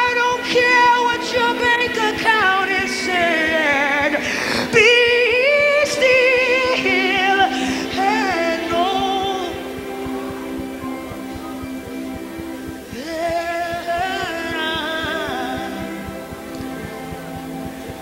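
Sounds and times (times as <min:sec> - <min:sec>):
held keyboard chord: 0:00.0 - 0:18.0
woman singing with vibrato: 0:00.0 - 0:18.0.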